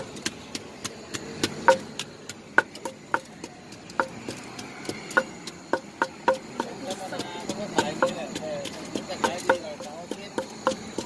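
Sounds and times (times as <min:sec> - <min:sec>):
wooden pestle pounding in mortar: 0:00.0 - 0:11.0.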